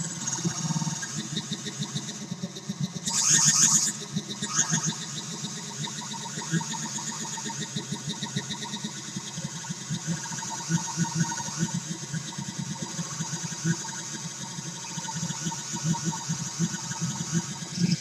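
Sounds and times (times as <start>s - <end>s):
buzzing synth drone: 0.0s - 18.0s.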